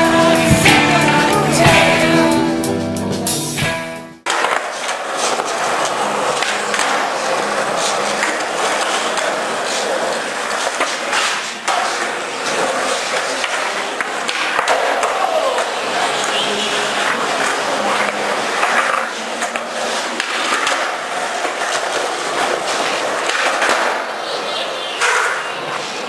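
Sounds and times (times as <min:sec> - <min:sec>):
skateboard wheels rolling: 0:00.0 - 0:02.4, 0:04.2 - 0:26.0
skateboard clacking on floor: 0:04.3 - 0:26.0.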